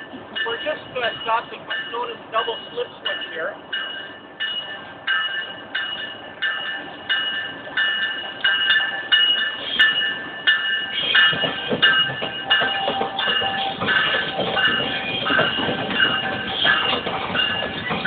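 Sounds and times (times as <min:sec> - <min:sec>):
train warning bell ringing: 0:00.0 - 0:18.0
train wheels rumbling and clattering: 0:00.0 - 0:18.0.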